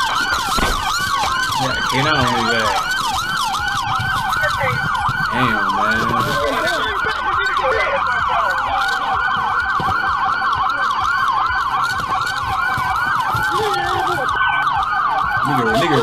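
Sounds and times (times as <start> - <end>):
police siren fast yelp: 0.0 - 16.0
siren winding down in pitch: 0.0 - 16.0.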